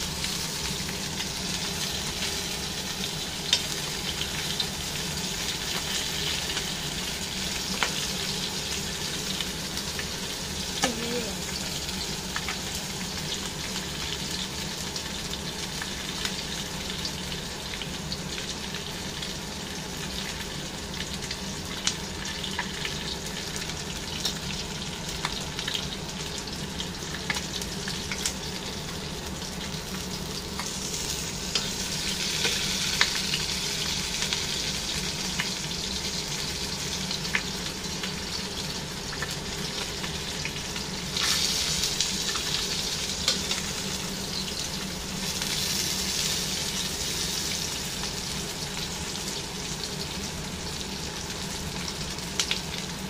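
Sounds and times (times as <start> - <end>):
fish sizzling in hot oil: 0.0 - 53.0.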